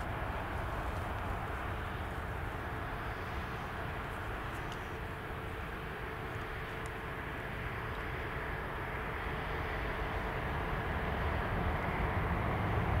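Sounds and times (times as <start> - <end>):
jet airliner climbing: 0.0 - 11.8.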